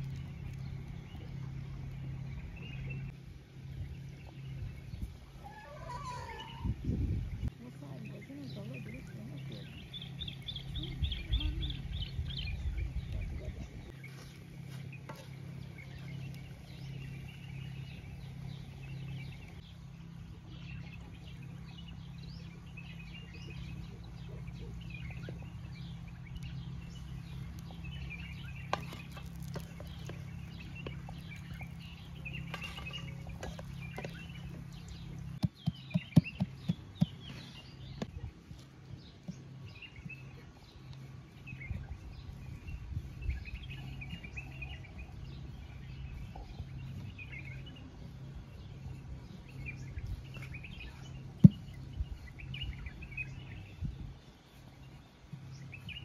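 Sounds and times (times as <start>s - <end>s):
birds calling: 0.0s - 56.0s
steady low hum: 0.0s - 56.0s.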